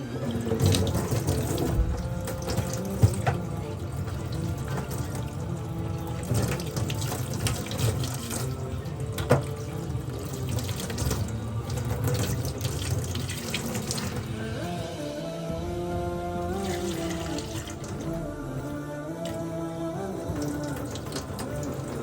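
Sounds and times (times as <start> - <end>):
tap water running into sink: 0.0 - 14.8, 16.4 - 22.0
soft background music: 0.0 - 22.0.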